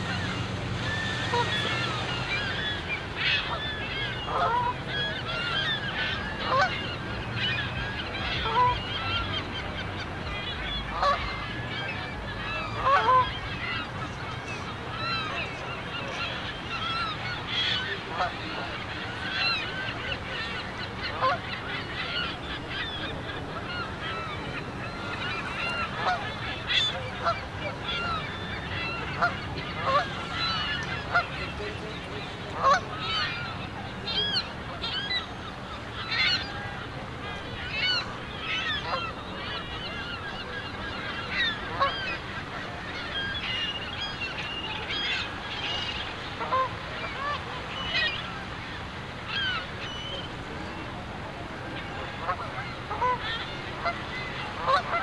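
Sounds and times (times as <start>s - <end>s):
geese honking: 0.0s - 9.3s, 10.8s - 13.9s, 15.0s - 36.8s, 37.4s - 50.0s, 51.8s - 55.0s.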